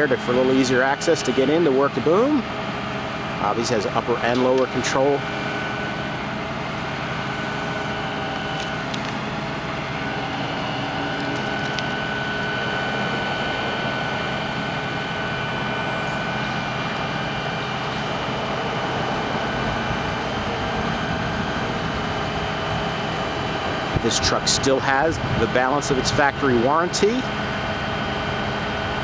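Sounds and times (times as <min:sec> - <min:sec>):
diesel engine drone: 0:00.0 - 0:29.0
thin steady whine: 0:00.0 - 0:29.0.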